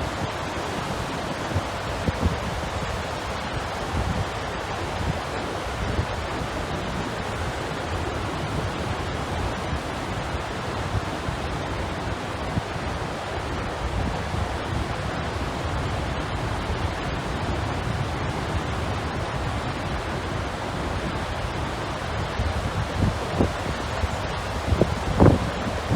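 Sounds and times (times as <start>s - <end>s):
rushing water roar: 0.0s - 25.9s
wind buffeting microphone: 0.6s - 25.9s.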